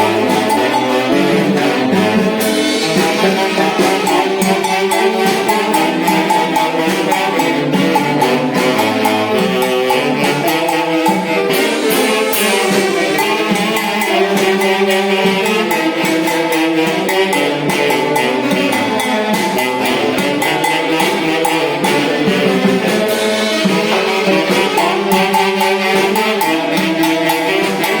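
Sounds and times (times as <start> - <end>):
band playing dance music: 0.0 - 28.0.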